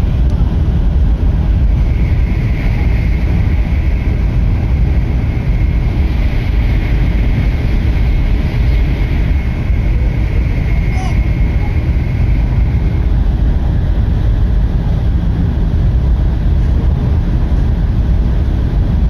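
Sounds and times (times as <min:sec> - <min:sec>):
high whine: 0:00.0 - 0:19.0
train running rumble: 0:00.0 - 0:19.0.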